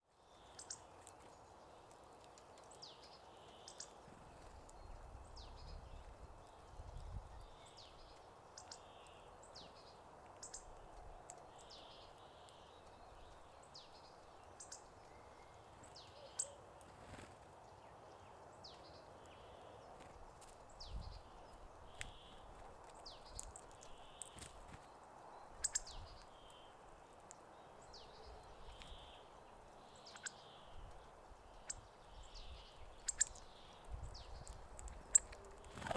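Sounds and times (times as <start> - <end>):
faint steady hiss: 0.1 - 35.9
birds calling with sharp ticks: 0.3 - 35.9.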